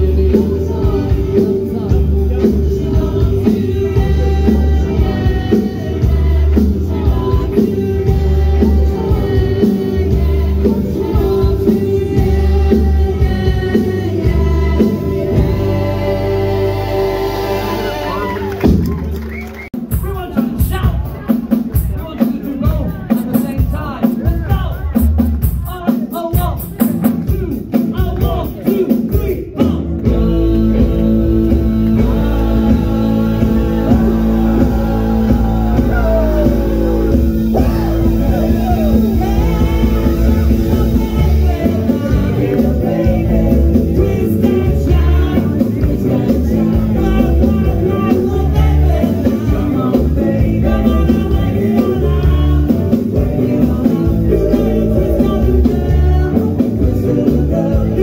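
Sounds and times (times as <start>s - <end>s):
rock music with singer: 0.0s - 58.0s.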